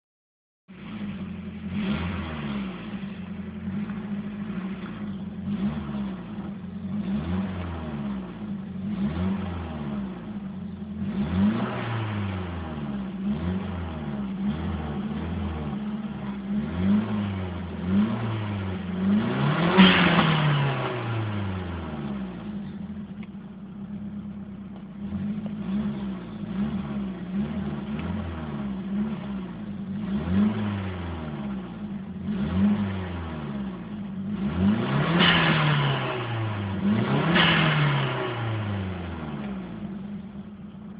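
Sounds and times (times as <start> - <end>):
car engine revving: 0.7 - 40.9.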